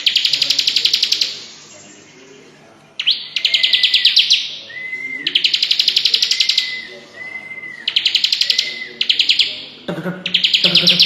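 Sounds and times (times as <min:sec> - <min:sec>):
bird chattering song: 0:00.0 - 0:11.0.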